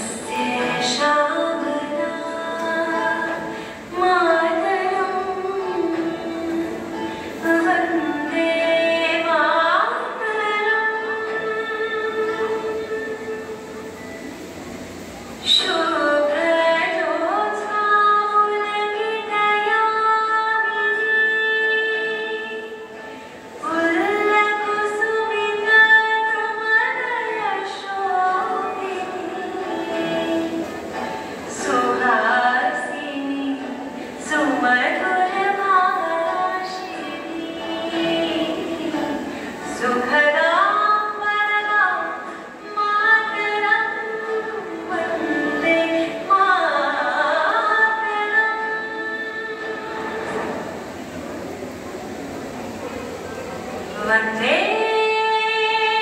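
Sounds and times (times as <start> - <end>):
woman singing long notes: 0.0 - 14.2, 15.4 - 50.9, 53.9 - 56.0.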